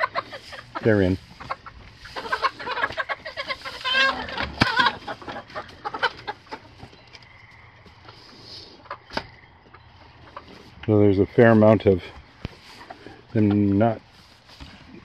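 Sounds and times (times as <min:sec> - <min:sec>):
hens clucking and squawking: 0:00.0 - 0:15.0.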